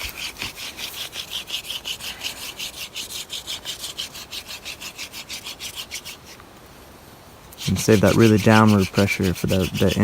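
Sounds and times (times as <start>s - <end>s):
wooden spindle rasping in fireboard: 0.0s - 6.4s, 7.5s - 10.0s.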